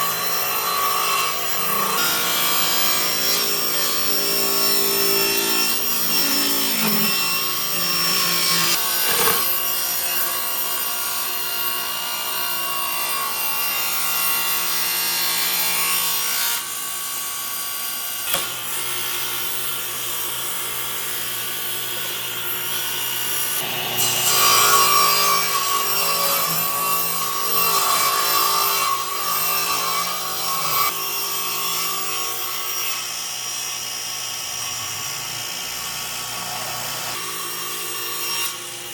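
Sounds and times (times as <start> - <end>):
power tool motor whine: 0.0 - 15.5, 16.8 - 38.9.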